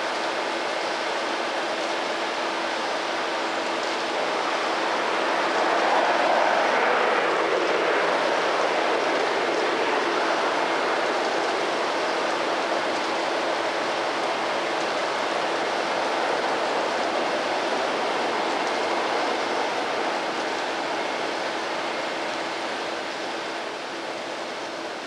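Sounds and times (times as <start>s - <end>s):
freight train rolling on rails: 0.0s - 25.0s.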